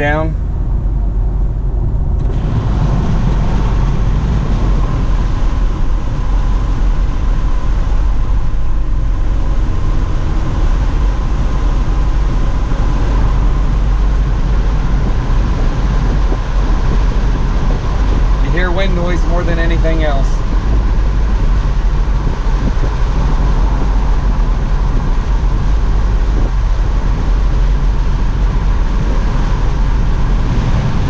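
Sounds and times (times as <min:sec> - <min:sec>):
wind rushing through car windows: 0:00.0 - 0:31.0.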